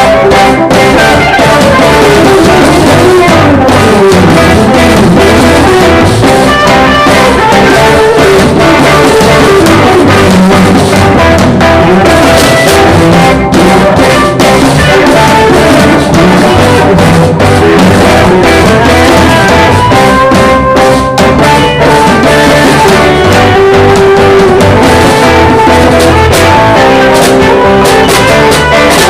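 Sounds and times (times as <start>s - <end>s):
live band with drums and guitar: 0.0s - 29.0s.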